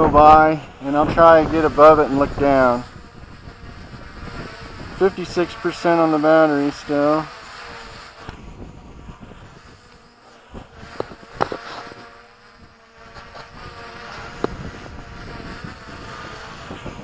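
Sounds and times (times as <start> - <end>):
drone propellers buzzing: 0.0 - 17.0
wind noise on microphone: 0.0 - 17.0.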